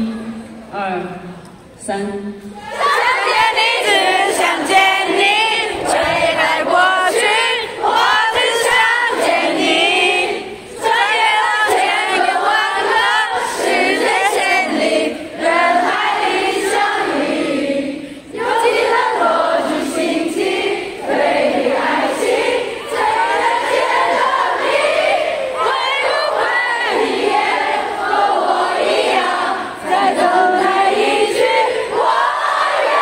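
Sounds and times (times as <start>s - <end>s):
crowd singing in unison: 2.4s - 33.0s.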